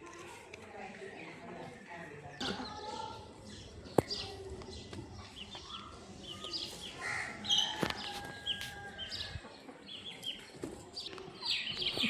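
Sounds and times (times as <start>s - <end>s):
birds chirping: 2.1s - 12.0s.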